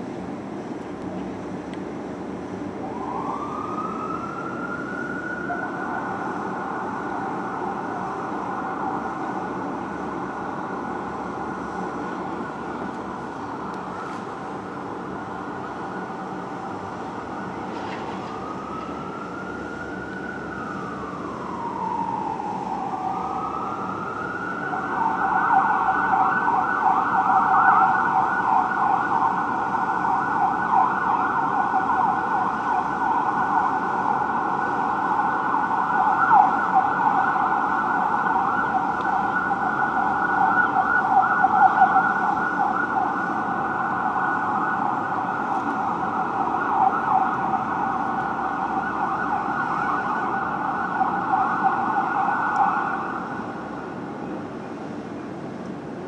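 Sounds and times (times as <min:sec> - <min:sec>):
traffic rumble: 0:00.0 - 0:56.0
fire truck siren wailing and yelping: 0:02.6 - 0:54.3.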